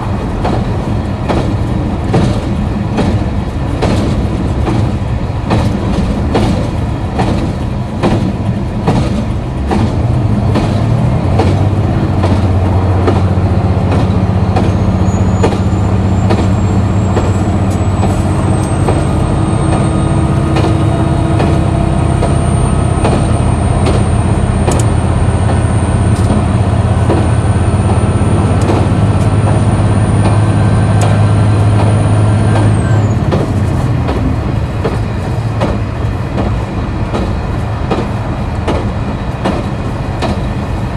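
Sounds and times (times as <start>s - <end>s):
wheels clicking over rail joints: 0.0s - 40.6s
diesel railcar engine drone: 0.0s - 40.9s.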